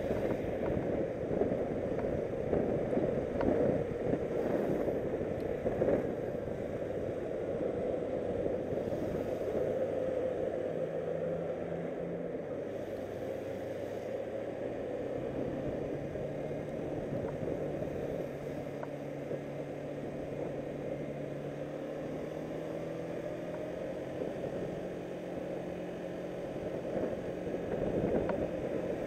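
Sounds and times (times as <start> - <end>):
motorcycle engine running: 0.0 - 29.0
wind and road noise: 0.0 - 29.0.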